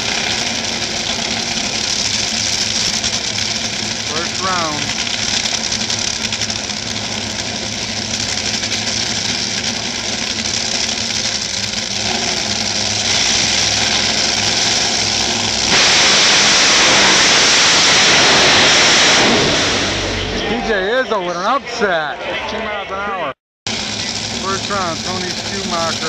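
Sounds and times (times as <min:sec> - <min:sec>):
dragster engines running: 0:00.0 - 0:26.0.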